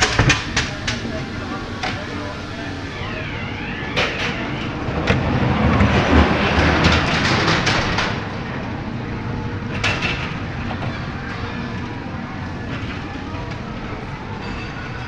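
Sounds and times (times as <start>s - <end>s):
ride car rumbling on track: 0.0s - 15.0s.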